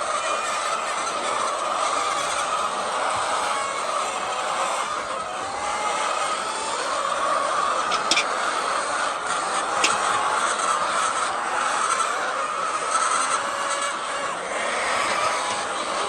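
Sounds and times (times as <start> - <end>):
flock of chickens calling: 0.0 - 16.0.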